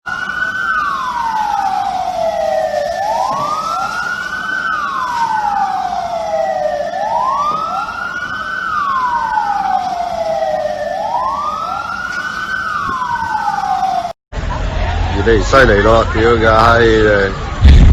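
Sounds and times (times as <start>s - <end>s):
emergency sirens wailing: 0.0s - 17.6s.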